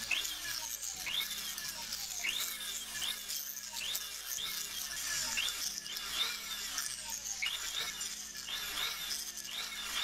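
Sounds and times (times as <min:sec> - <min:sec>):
rotary tool buffing metal: 0:00.0 - 0:10.0.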